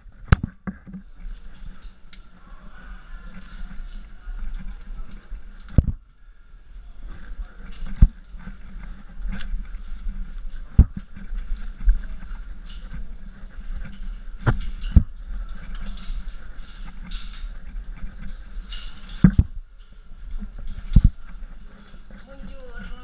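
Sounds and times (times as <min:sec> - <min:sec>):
clothing and gear rustling: 0:00.1 - 0:23.0.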